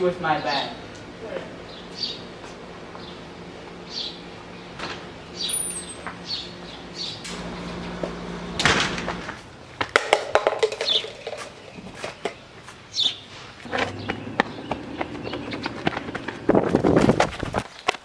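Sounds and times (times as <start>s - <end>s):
small birds chirping: 0.0s - 7.8s, 10.8s - 18.0s.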